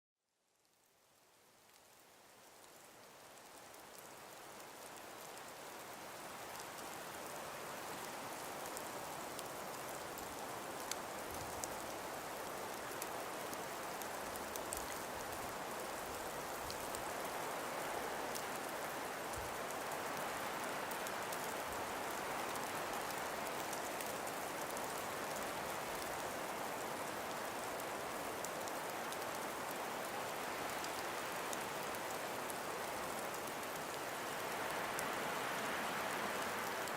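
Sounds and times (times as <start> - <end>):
breeze through icy trees: 0.3 - 36.9
faint light ticks: 1.6 - 36.9.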